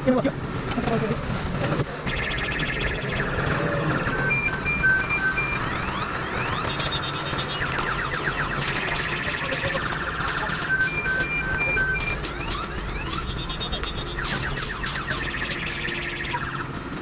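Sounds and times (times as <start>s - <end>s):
car alarm electronic tones: 2.0s - 17.0s.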